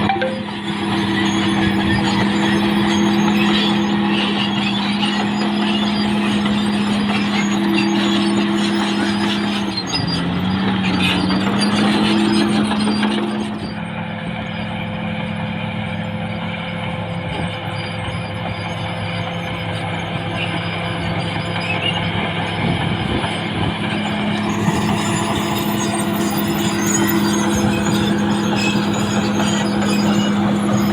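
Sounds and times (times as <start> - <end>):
bulldozer diesel engine under load: 0.0 - 30.9.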